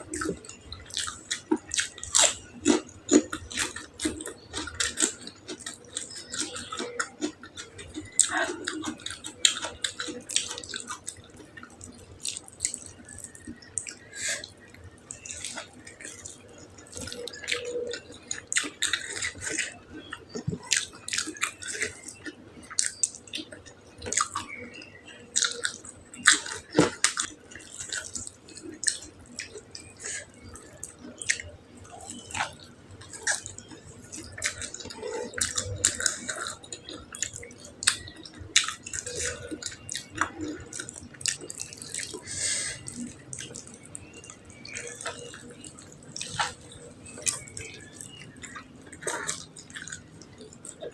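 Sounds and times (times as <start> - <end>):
wet chewing and lip smacking: 0.0 - 50.9.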